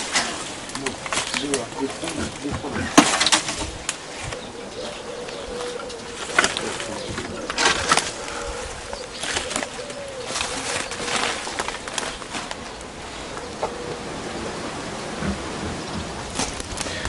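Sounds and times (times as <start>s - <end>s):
dry branches cracking: 0.0s - 13.8s, 15.2s - 17.0s
dove cooing: 0.0s - 17.0s.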